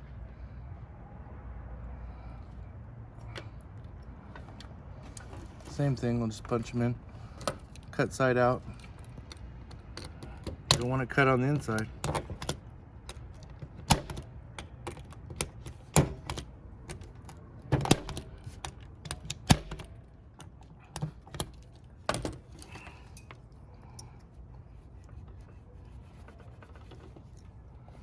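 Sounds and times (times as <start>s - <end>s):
handling of jack: 3.2s - 28.0s.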